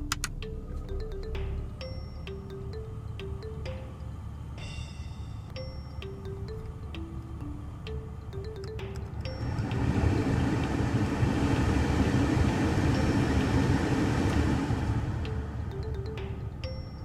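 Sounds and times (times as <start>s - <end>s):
blower fan rushing air: 0.0s - 17.0s.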